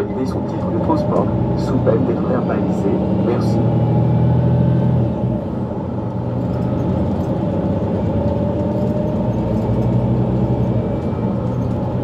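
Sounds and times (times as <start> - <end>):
bus diesel engine hum: 0.0 - 12.0.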